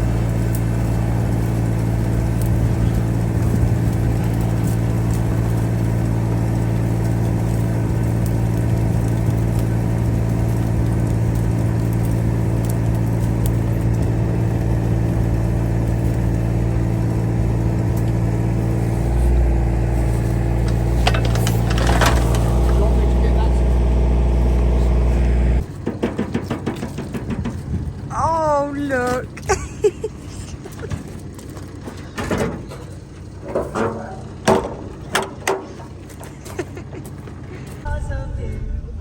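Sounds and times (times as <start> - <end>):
vehicle engine running steadily: 0.0 - 39.0.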